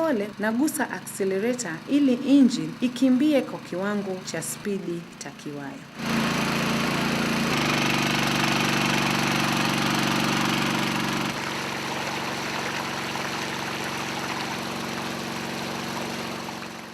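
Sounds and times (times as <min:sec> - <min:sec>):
small pump engine running: 0:00.0 - 0:16.9.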